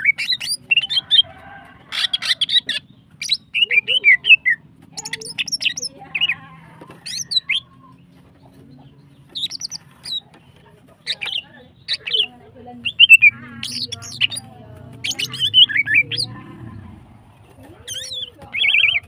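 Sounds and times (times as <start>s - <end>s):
bird chirps and squawks: 0.0s - 1.2s, 1.9s - 8.0s, 9.3s - 10.3s, 11.0s - 17.0s, 17.8s - 19.0s.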